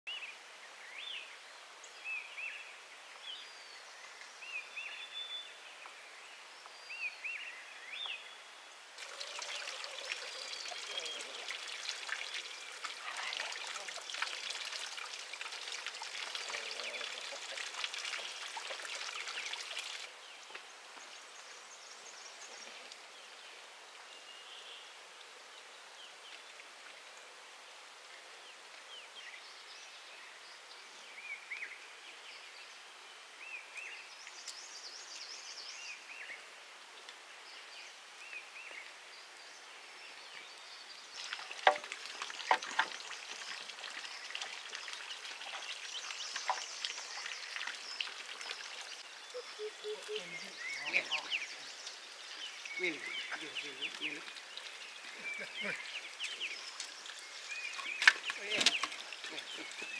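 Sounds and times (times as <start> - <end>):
soft steady hiss: 0.1 - 59.9.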